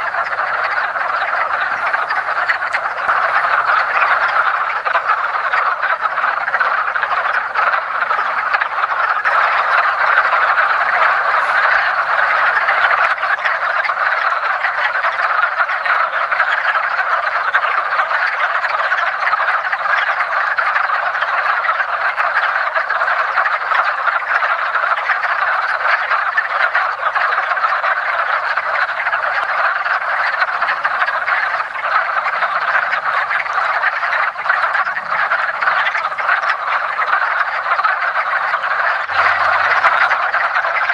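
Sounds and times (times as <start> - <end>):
frogs clucking in chorus: 0.0 - 40.9.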